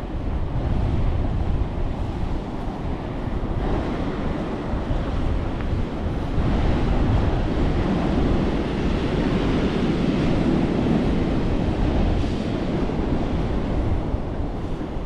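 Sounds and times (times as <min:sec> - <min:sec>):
ocean surf: 0:00.0 - 0:15.0
wind buffeting the microphone: 0:00.0 - 0:15.0.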